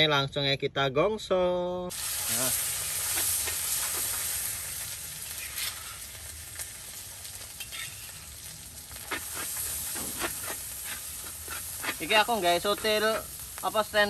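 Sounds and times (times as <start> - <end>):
fish and paste sizzling in wok: 1.9 - 14.0.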